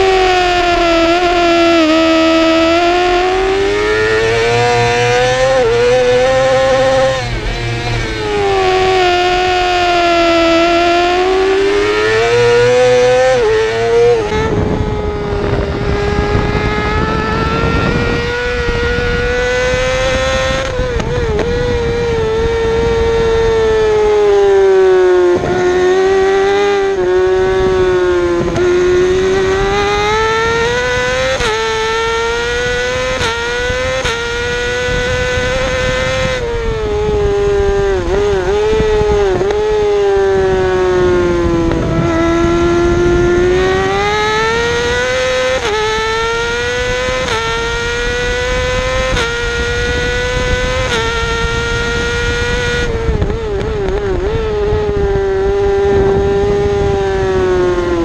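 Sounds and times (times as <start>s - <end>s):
motorcycle engine revving high: 0.0s - 58.0s
wind rushing over microphone: 0.0s - 58.0s.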